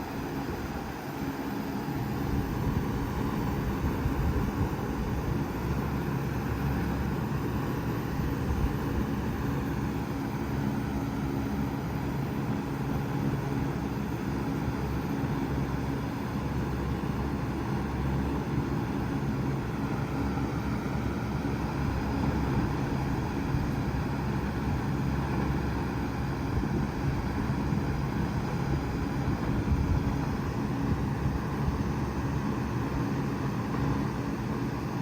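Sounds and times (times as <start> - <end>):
compressor hum: 0.0 - 35.0.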